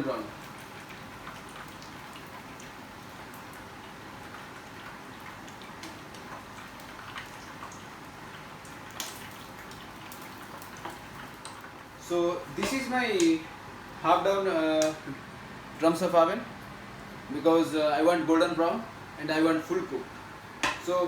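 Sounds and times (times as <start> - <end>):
chicken deep-frying in oil: 0.0 - 21.0.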